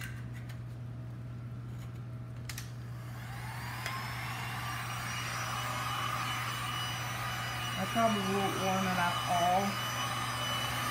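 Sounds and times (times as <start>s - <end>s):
heat gun fan whine and rush: 1.0s - 10.9s.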